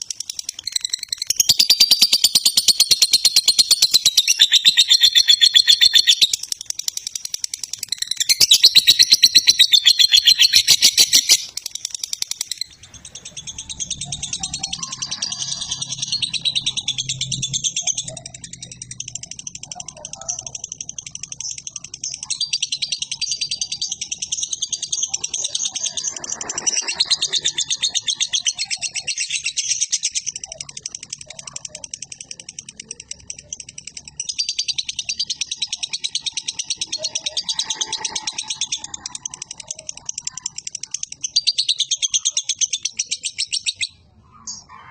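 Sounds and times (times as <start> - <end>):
lovebird chattering song: 0.0 - 44.8.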